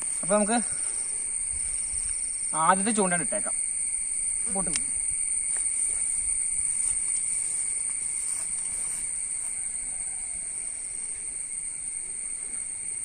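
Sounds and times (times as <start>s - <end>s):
insects high-pitched whine: 0.0s - 13.0s
lower insect shrill: 0.0s - 13.0s.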